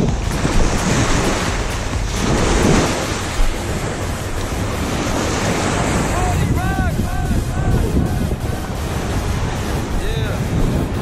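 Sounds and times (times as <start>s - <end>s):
surf washing over sand: 0.0s - 11.0s
wind buffeting microphone: 0.0s - 11.0s.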